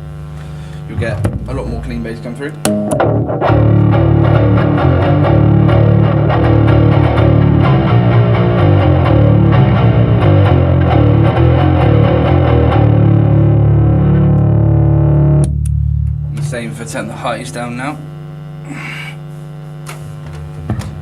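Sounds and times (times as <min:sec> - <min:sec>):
distorted electric bass riff: 0:00.0 - 0:21.0.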